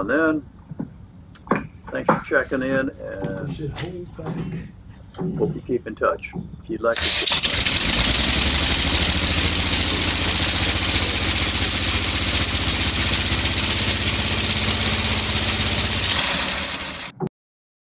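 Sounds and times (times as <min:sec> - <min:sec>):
compressed-air engine pulsing: 0:00.0 - 0:17.2.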